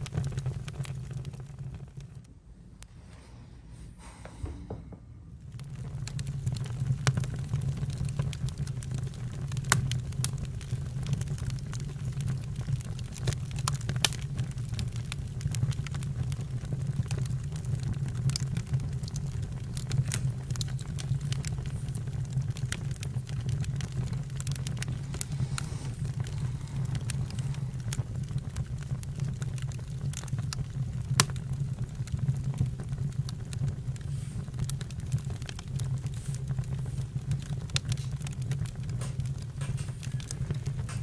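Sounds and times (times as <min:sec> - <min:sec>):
burning wood crackling and popping: 0:00.0 - 0:02.3, 0:05.3 - 0:41.0
low rumble of flames: 0:00.0 - 0:03.4, 0:04.4 - 0:41.0.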